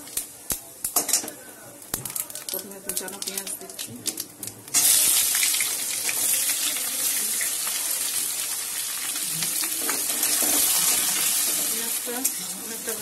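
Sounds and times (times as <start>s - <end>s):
onions sizzling in hot oil: 1.8s - 13.0s.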